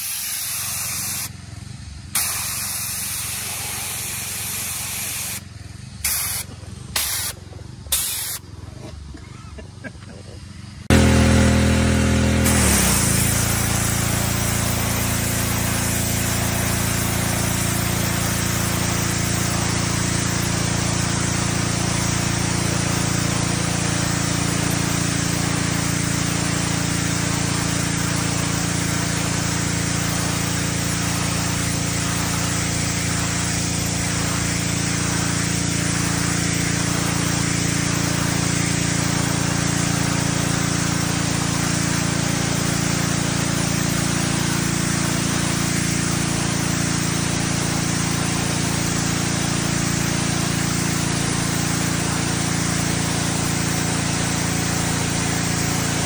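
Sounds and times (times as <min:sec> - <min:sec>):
spray jet hissing: 0:00.0 - 0:01.3, 0:02.1 - 0:08.4, 0:10.9 - 0:56.0
pressure washer engine: 0:00.0 - 0:56.0.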